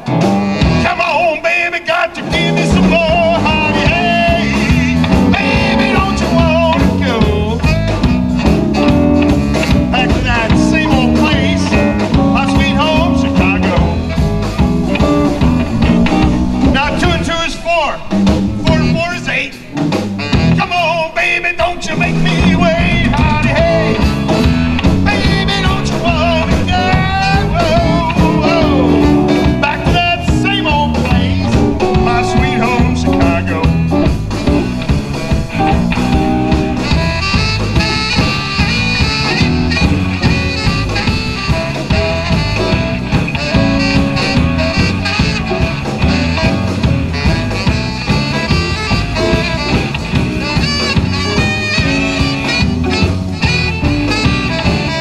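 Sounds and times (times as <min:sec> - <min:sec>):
saxophone: 0:00.0 - 0:01.7, 0:02.3 - 0:55.0
bass guitar: 0:00.0 - 0:55.0
drums: 0:00.0 - 0:55.0
electric guitars: 0:00.0 - 0:55.0.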